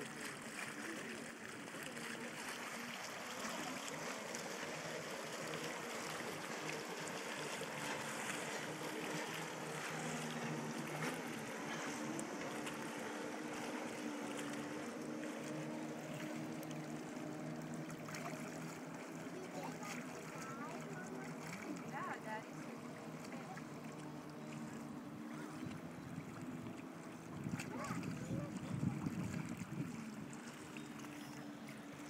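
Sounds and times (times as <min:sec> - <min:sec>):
water lapping against rocks: 0:00.0 - 0:32.0.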